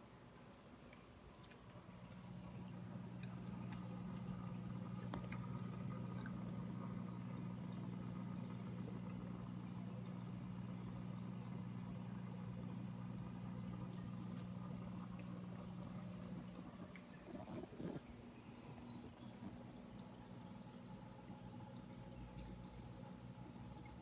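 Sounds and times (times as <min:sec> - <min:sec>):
aquarium equipment hum: 0:00.0 - 0:24.0.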